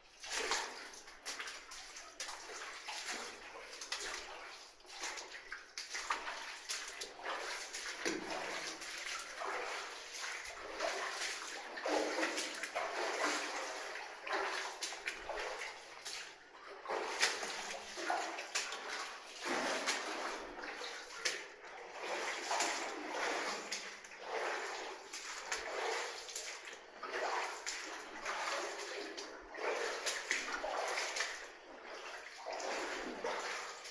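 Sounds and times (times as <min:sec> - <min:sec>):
water sloshing and splashing: 0:00.0 - 0:33.9.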